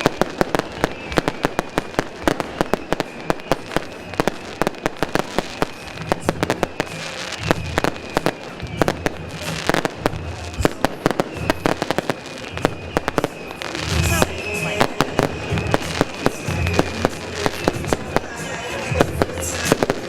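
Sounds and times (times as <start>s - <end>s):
thin high whistle: 0.0s - 20.0s.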